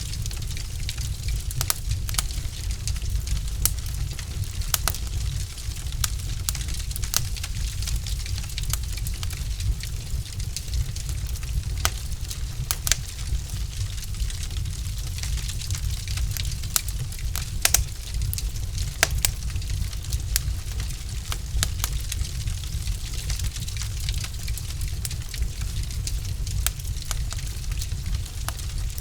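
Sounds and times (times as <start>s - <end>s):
logs crackling in fireplace: 0.0s - 29.0s
low fire rumble: 0.0s - 29.0s.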